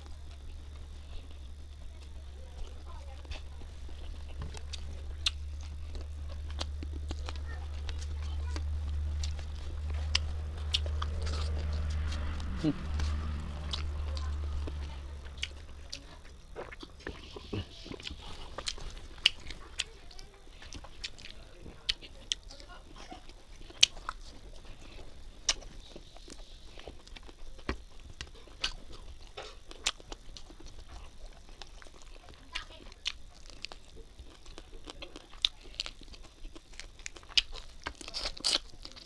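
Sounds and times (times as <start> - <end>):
person chewing and lip-smacking: 0.0 - 39.0.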